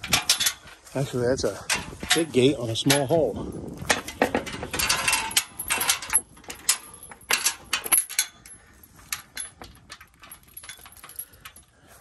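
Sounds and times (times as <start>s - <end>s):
gate chain and latch rattling: 0.0s - 11.9s.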